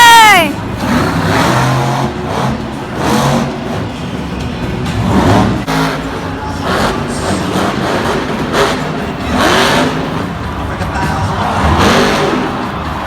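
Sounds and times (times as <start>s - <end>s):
monster truck engine revving: 0.3s - 13.0s.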